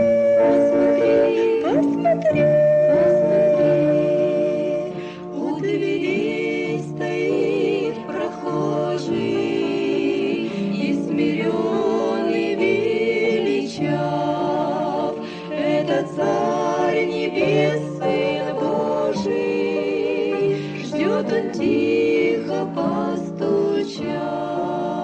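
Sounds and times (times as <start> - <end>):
choir singing a hymn: 0.0 - 25.0.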